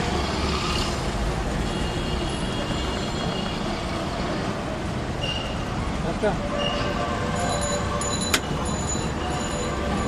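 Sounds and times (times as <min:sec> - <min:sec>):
road traffic running by: 0:00.0 - 0:10.0.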